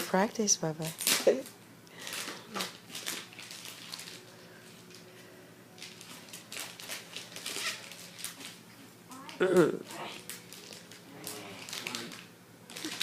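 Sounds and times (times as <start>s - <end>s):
wrapping paper rustling and tearing: 0.8s - 5.1s, 5.8s - 8.6s, 9.3s - 13.0s.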